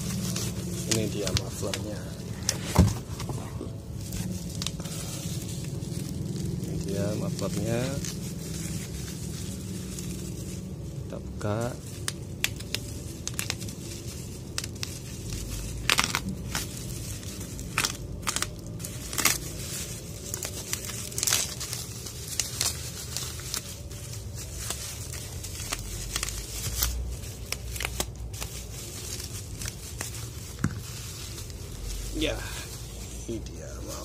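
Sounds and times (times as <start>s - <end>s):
bubble wrap crinkling and tearing: 0.0s - 34.0s.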